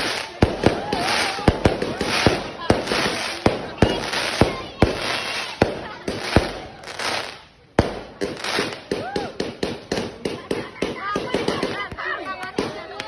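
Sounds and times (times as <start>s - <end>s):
fireworks crackling hiss: 0.0s - 11.8s
fireworks bangs: 0.0s - 13.0s.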